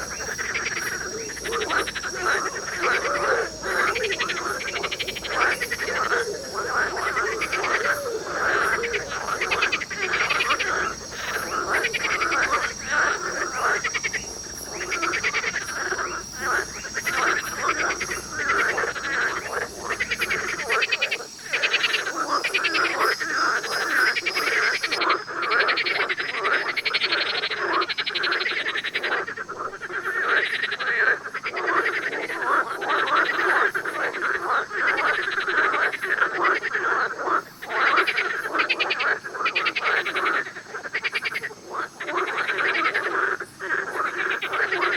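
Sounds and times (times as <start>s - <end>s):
frogs croaking and trilling: 0.0s - 44.9s.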